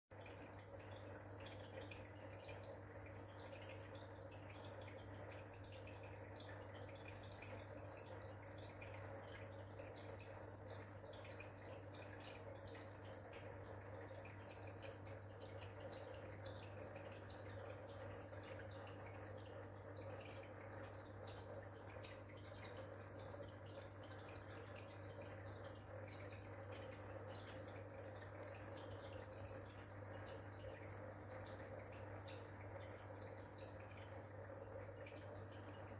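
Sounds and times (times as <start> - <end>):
water trickling and dripping: 0.1 - 35.9
aquarium filter humming: 0.2 - 35.9.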